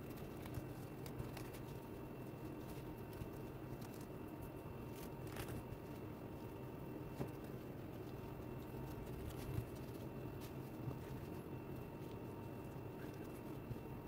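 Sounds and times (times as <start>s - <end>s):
fingers patting dough: 0.0s - 14.0s
steady low hum: 0.0s - 14.0s.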